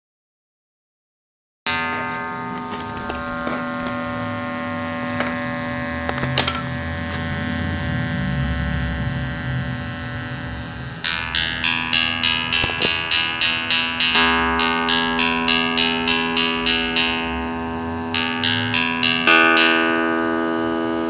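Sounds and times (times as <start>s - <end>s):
buzzy square-wave drone: 1.7s - 21.0s
short plucked-sounding notes: 1.7s - 21.0s.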